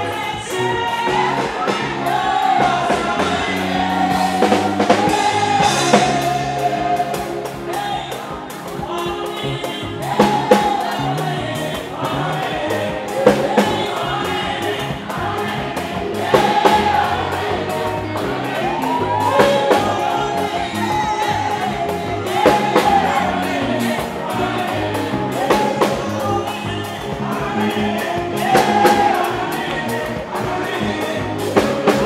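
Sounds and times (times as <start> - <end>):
backing voices singing: 0.0 - 32.0
drums: 0.0 - 32.0
electric bass guitar: 0.0 - 32.0.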